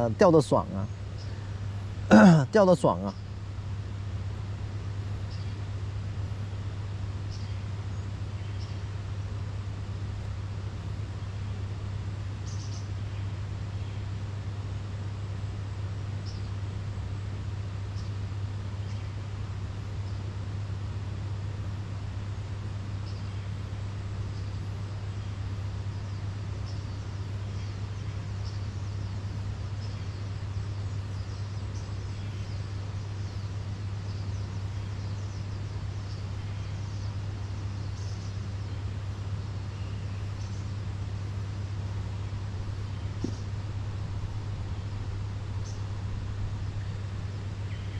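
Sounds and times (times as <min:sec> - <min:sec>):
constant hiss: 0:00.0 - 0:47.9
steady low hum: 0:00.0 - 0:47.9.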